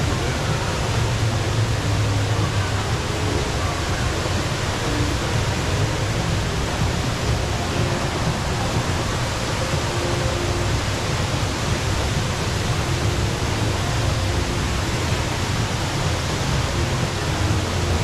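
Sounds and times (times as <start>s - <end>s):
indoor waterfall rushing: 0.0s - 18.0s.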